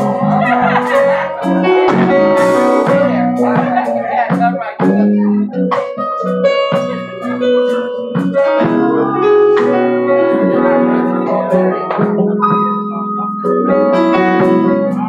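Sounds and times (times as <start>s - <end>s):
electric keyboard chords: 0.0s - 15.0s
guitar: 0.0s - 15.0s
live band music: 0.0s - 15.0s.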